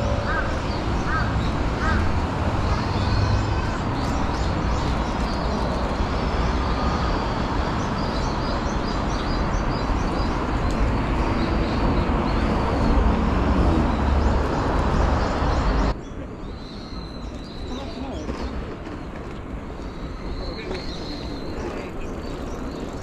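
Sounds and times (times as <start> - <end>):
cars passing with road noise: 0.0 - 23.0
small birds chirping: 0.0 - 23.0.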